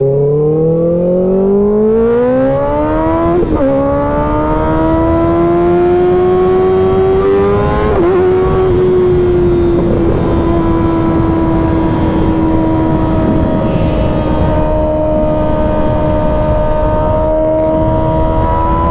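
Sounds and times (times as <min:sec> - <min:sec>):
motorcycle engine accelerating: 0:00.0 - 0:18.9.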